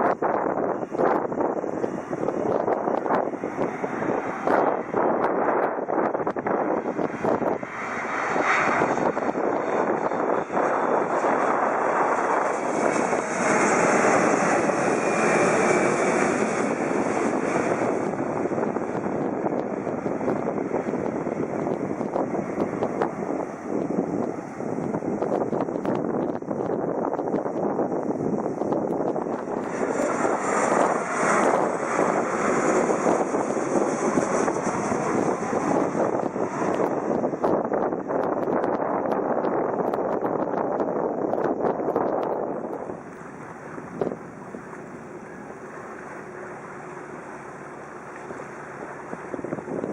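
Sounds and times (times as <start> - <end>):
jet airliner flying overhead: 0.0 - 49.9
wind on microphone: 0.0 - 49.9.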